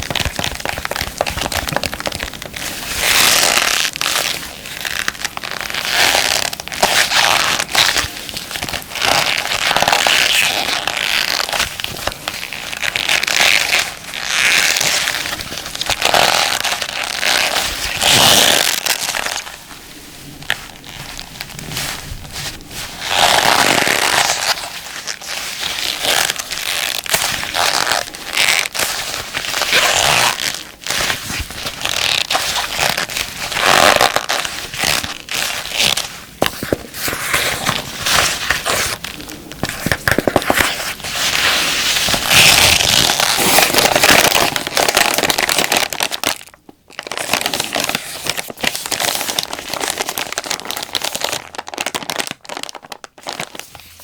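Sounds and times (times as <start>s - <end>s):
gloves crinkling and rubbing: 0.0s - 54.0s
plastic wipes pack crinkling: 0.0s - 54.0s.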